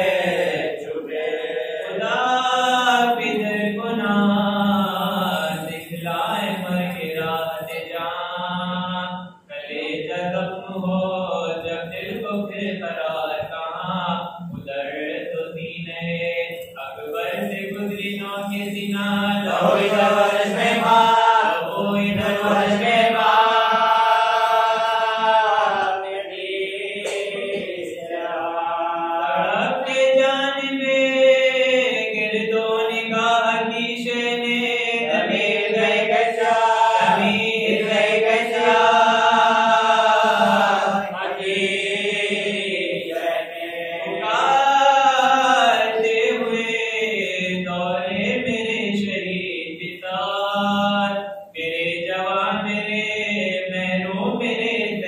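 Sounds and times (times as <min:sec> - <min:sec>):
man chanting into a microphone: 0:00.0 - 0:55.0.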